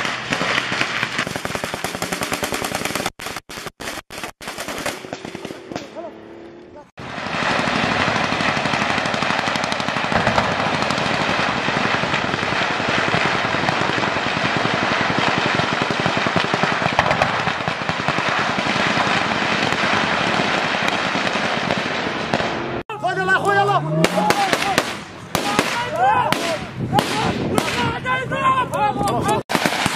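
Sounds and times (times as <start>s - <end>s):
dense overlapping gunshots: 0.0s - 6.0s, 7.0s - 22.8s, 23.6s - 28.0s, 29.4s - 29.9s.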